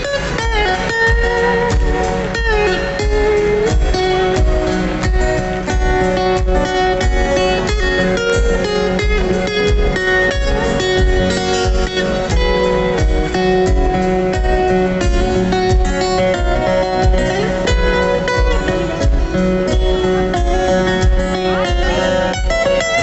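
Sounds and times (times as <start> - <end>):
plucked guitar notes: 0.0 - 23.0
steady low beat: 0.0 - 23.0.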